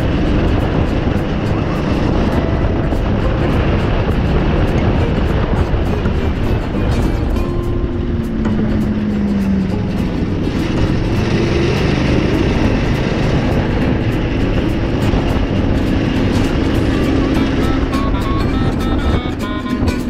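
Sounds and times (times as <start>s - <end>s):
small kart engine running: 0.0s - 20.0s.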